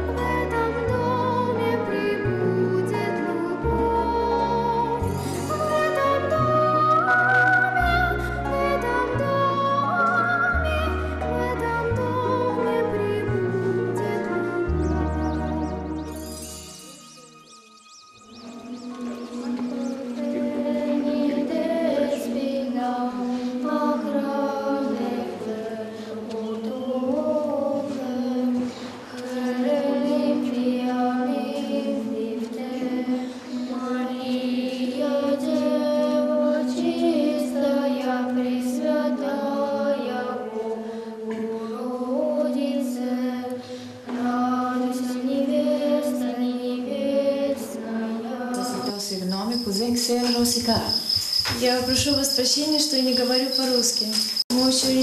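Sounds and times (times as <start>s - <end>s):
voices chanting slow melody: 0.0s - 16.6s, 17.2s - 55.0s.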